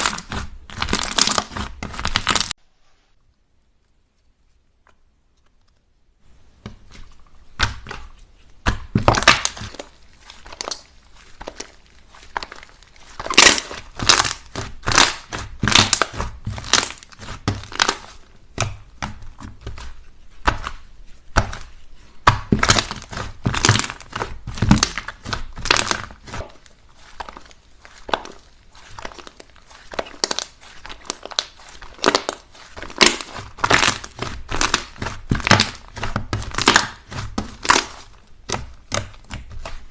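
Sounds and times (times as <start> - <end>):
slime crackling and popping: 0.0 - 2.6, 6.8 - 39.9.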